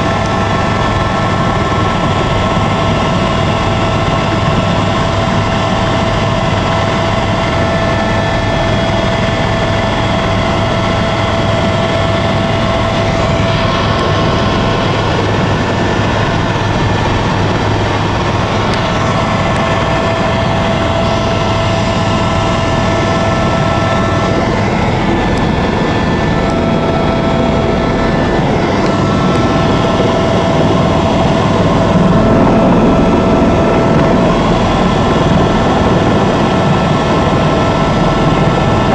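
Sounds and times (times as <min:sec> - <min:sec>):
helicopter rotor and engine: 0:00.0 - 0:38.9
high whine: 0:00.0 - 0:38.9.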